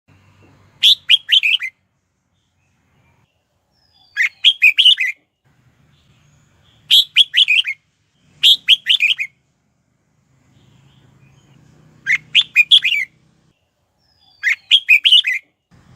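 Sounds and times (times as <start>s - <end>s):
bird singing whistled notes: 0.4s - 5.3s, 5.9s - 9.4s, 10.5s - 15.7s.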